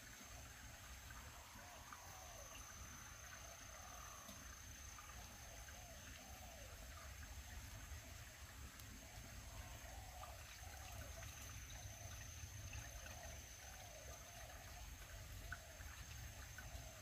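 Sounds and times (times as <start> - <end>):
faint running water: 0.0 - 17.0.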